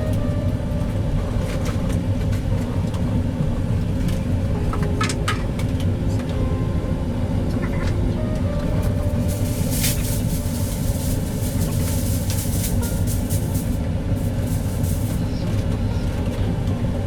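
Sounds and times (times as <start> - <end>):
low rumble: 0.0 - 16.8.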